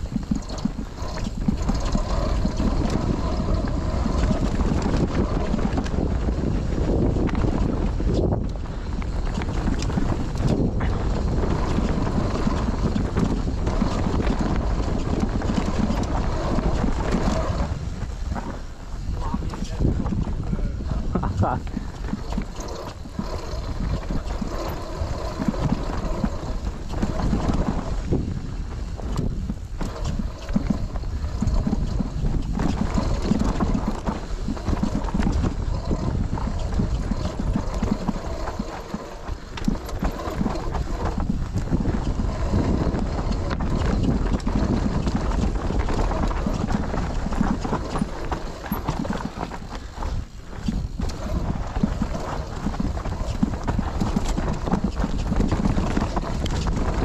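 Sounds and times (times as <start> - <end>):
bike rattling and knocking: 0.0 - 57.0
bike tyres on dirt and stones: 0.0 - 57.0.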